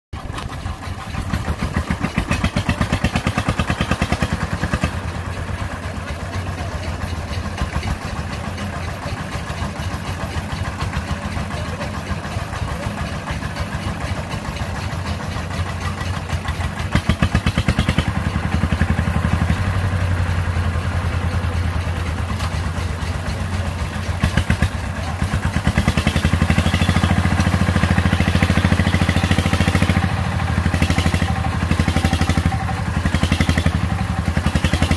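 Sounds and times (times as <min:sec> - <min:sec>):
diesel engine chugging: 0:00.1 - 0:34.9.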